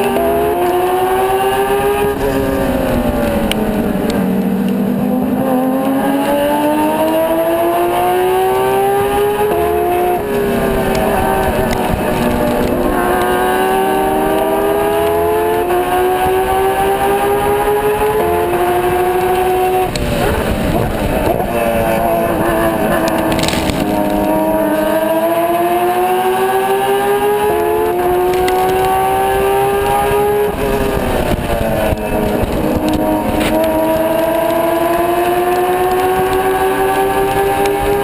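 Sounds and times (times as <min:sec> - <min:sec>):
race car engine accelerating: 0:00.0 - 0:38.0.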